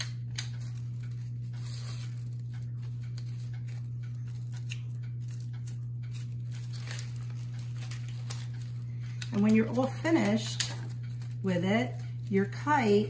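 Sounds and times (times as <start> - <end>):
low hum: 0.0 - 13.0
paper and tape rustling: 0.4 - 13.0.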